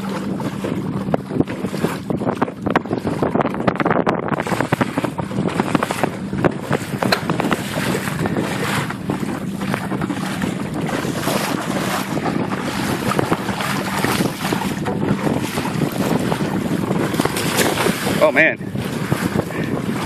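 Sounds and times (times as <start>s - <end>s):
water slapping against boat hull: 0.0s - 20.0s
wind buffeting microphone: 0.0s - 20.0s.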